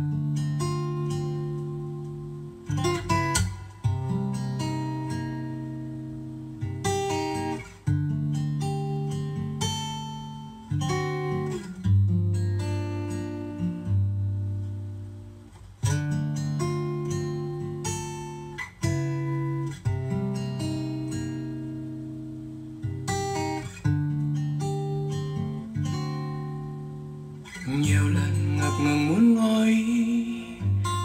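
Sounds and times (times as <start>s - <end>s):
acoustic guitar ballad: 0.0s - 31.0s.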